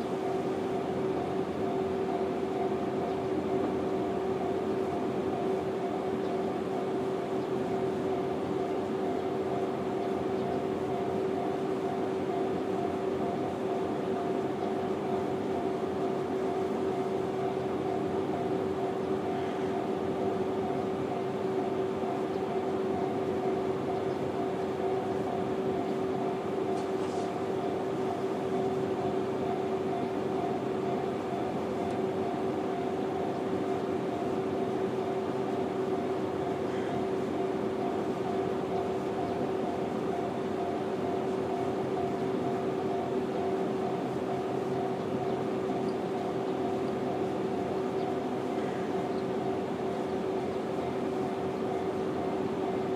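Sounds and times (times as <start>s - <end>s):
level-crossing alarm ringing: 0.0s - 52.9s.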